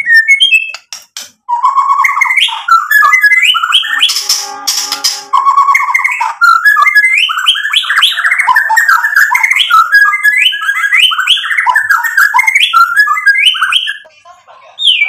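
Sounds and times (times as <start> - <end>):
songbird whistling: 0.0 - 14.1.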